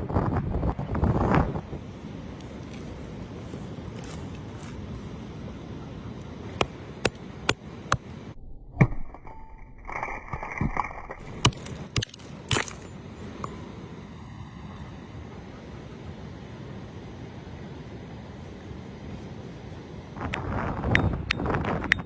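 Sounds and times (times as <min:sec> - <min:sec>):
wind noise: 0:00.0 - 0:08.4, 0:09.8 - 0:22.0.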